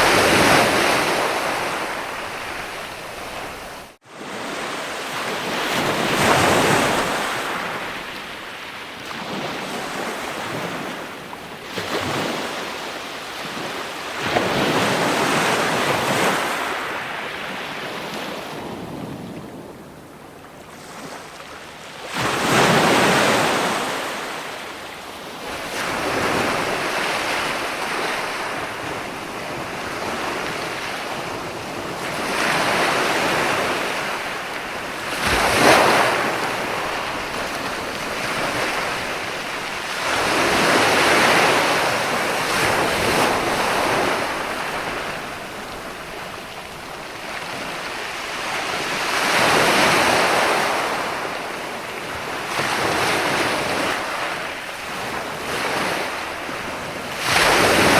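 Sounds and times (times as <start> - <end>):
ocean waves breaking: 0.0 - 57.9.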